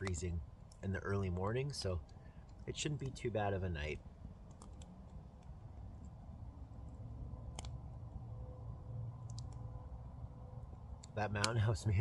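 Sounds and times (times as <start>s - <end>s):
campfire crackling: 0.0s - 8.2s, 9.2s - 12.0s.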